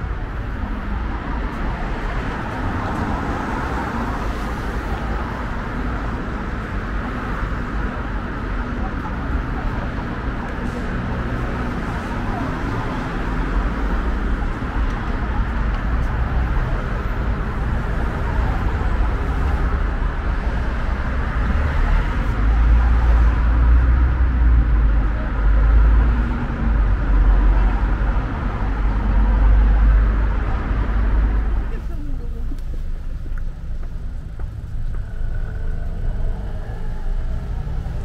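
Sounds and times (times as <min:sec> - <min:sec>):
murmur of passers-by talking: 0:00.0 - 0:38.0
traffic noise: 0:00.0 - 0:38.0.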